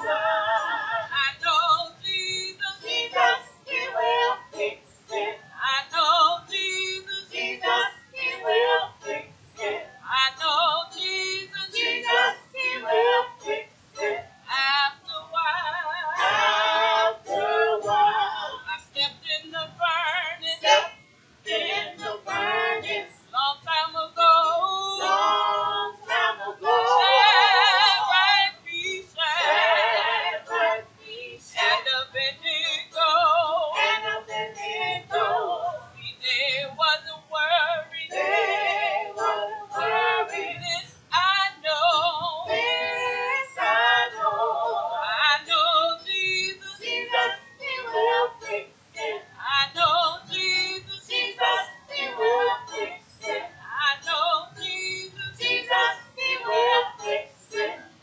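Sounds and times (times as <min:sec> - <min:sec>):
women singing into microphones: 0:00.0 - 0:58.0.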